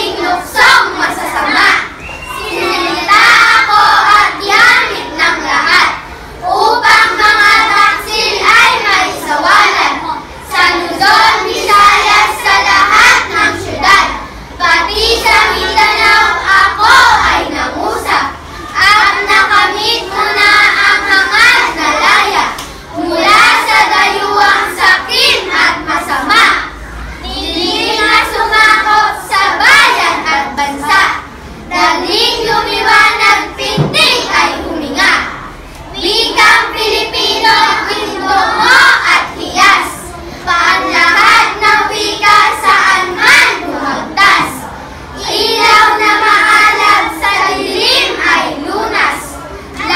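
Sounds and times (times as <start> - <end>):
girls reciting in unison: 0.0 - 49.9.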